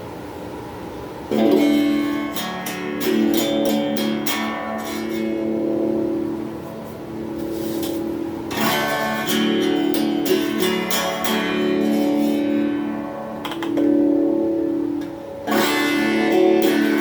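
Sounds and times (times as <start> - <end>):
electric guitar chords strummed: 1.3 - 17.0.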